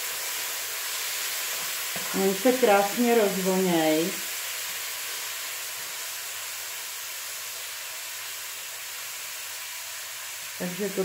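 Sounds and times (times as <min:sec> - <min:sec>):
onion sizzling in a frying pan: 0:00.0 - 0:11.0.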